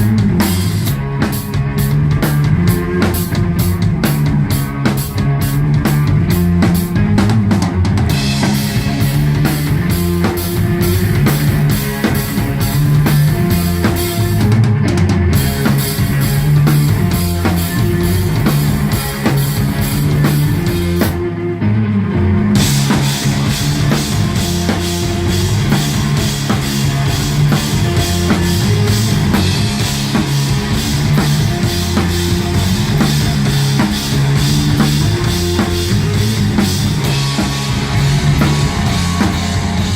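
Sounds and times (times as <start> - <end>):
rock band playing heavy riff: 0.0 - 39.9.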